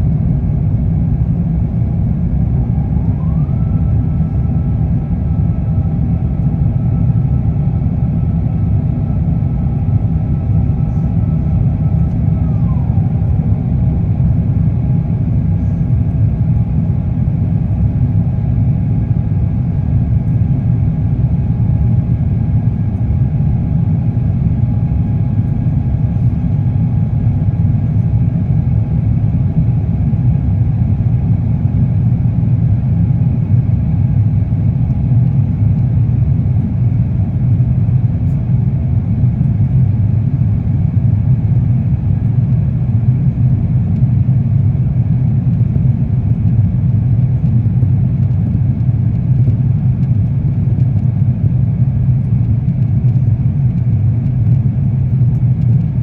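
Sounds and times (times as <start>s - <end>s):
airplane cabin drone: 0.0s - 56.0s
faint steady whine: 0.0s - 56.0s.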